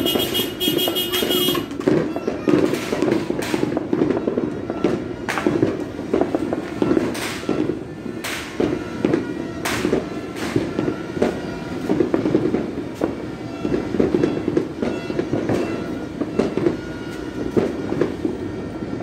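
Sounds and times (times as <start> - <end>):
firecrackers crackling: 0.0 - 19.0
sharp firecracker bangs: 0.0 - 19.0.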